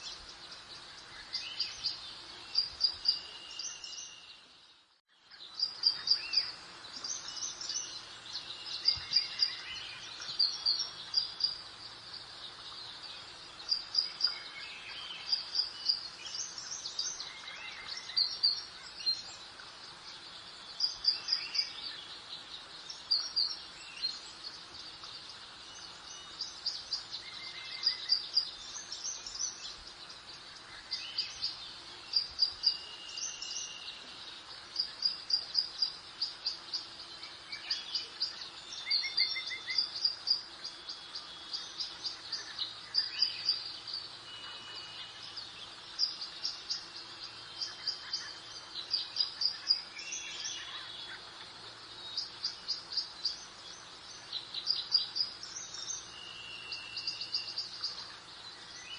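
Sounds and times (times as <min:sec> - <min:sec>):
outdoor ambience hiss: 0:00.0 - 0:58.9
songbirds chirping: 0:00.0 - 0:58.9.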